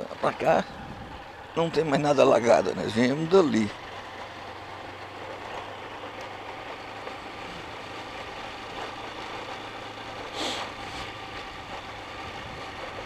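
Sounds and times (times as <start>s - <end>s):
small motorcycle engine running: 0.0s - 13.0s
tyres on cobblestones: 0.0s - 13.0s.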